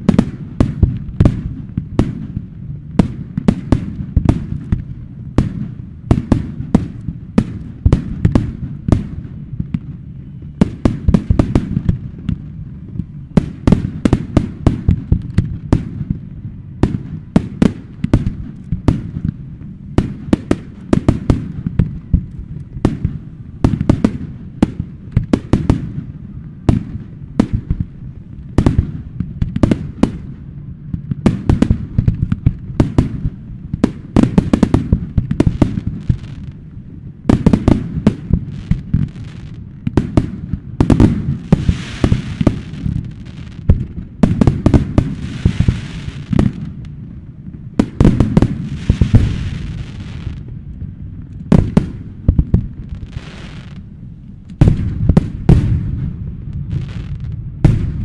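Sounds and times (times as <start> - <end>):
fireworks banging: 0.0 - 58.0
low rolling rumble: 0.0 - 58.0.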